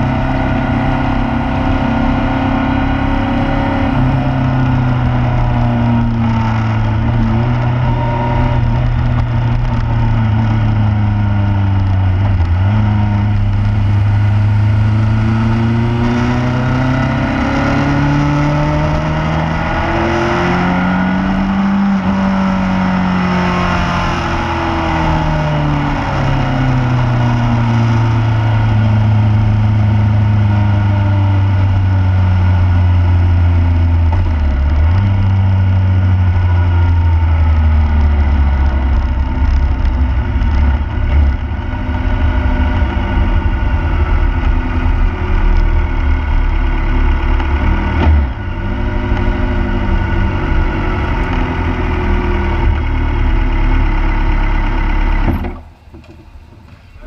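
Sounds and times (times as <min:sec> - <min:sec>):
motorcycle engine revving: 0:00.0 - 0:55.7.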